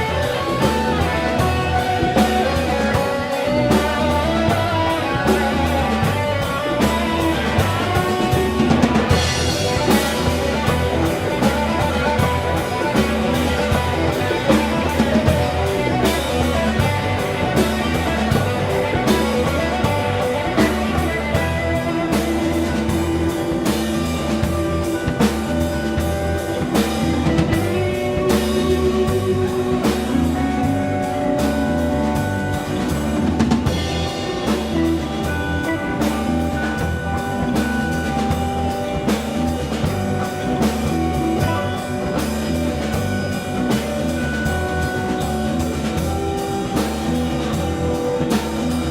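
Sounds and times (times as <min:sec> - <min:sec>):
live blues band playing: 0:00.0 - 0:48.9.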